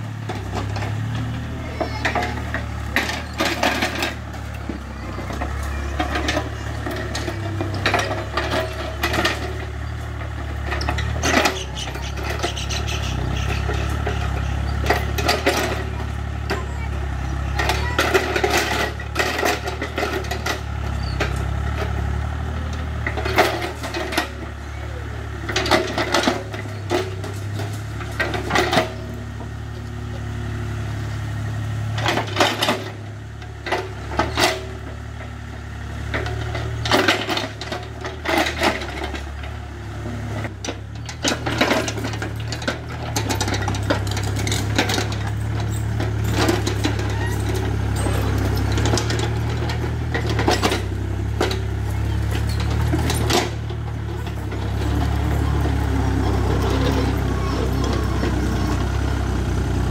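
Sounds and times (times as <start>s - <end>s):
bucket clanking and scraping dirt: 0.0s - 24.7s, 25.4s - 30.4s, 31.9s - 59.9s
excavator diesel engine running: 0.0s - 59.9s.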